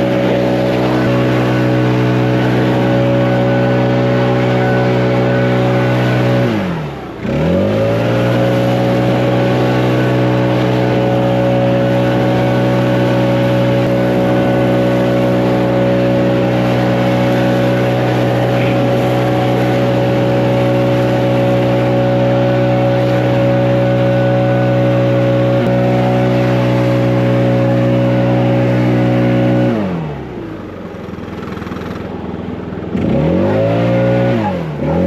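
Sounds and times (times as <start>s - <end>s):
leaf blower engine revving: 0.0s - 35.0s.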